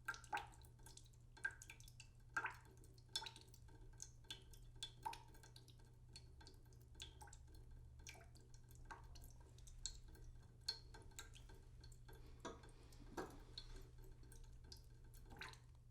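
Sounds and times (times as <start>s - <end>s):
water dripping into a pot: 0.0s - 15.9s.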